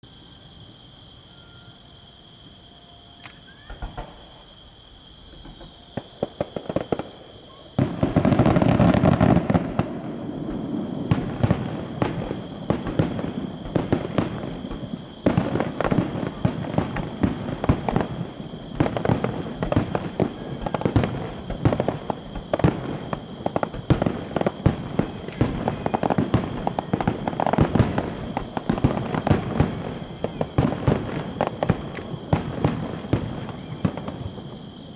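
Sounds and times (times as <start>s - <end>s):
fireworks crackling and banging: 3.6s - 4.6s, 5.2s - 34.9s.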